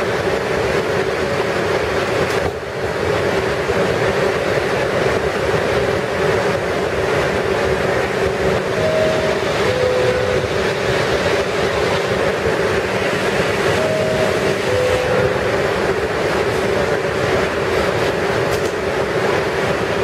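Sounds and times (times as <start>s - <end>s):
train hum and rumble: 0.0s - 20.0s.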